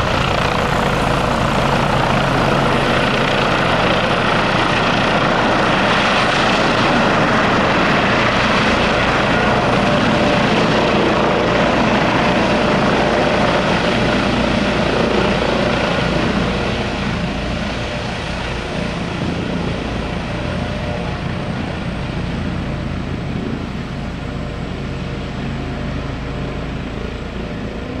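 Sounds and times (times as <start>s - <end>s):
helicopter engines and rotor: 0.0s - 28.0s.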